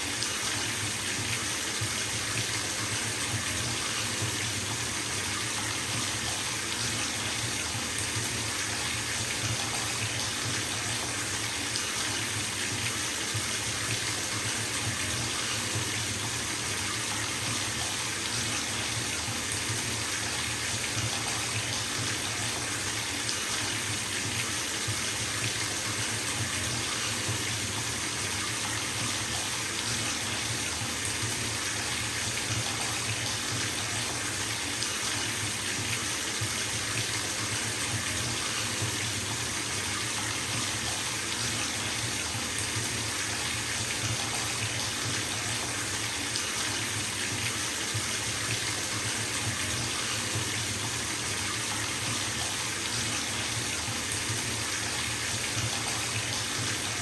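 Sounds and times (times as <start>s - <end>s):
tap water pouring into bathtub: 0.0s - 57.0s.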